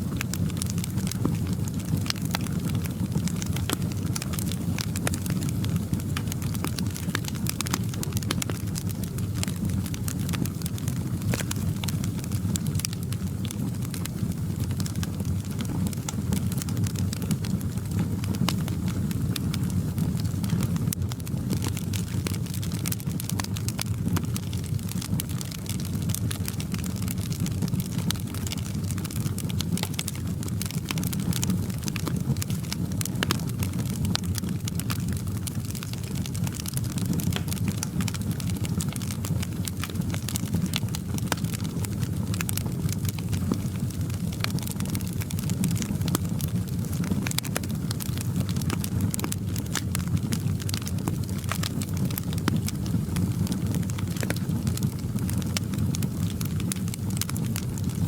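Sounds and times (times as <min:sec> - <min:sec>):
low rumble of flames: 0:00.0 - 0:58.0
wood fire crackling: 0:00.0 - 0:58.0
sharp pops and snaps: 0:00.2 - 0:58.0.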